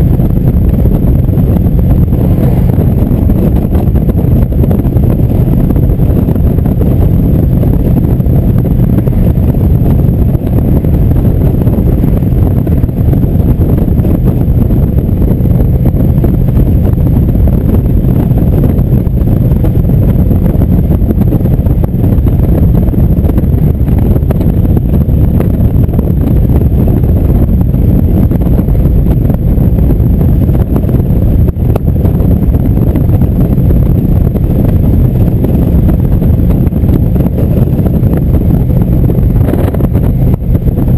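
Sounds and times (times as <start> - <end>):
motorcycle engine drone: 0.0 - 40.9
wind rush on microphone: 0.0 - 40.9.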